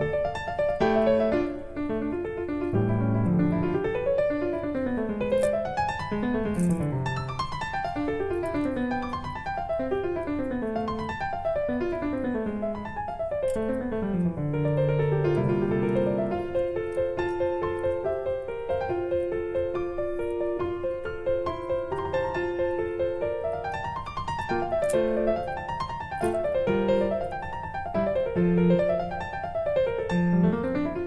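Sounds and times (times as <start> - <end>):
piano music with quick runs: 0.0 - 31.0.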